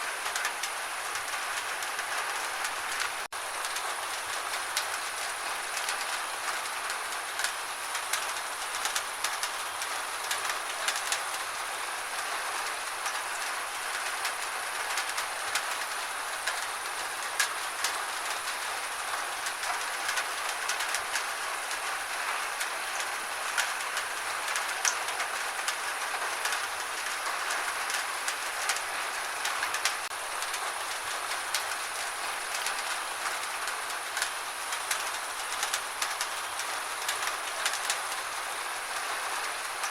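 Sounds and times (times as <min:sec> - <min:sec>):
gentle rain with drop impacts: 0:00.0 - 0:39.9.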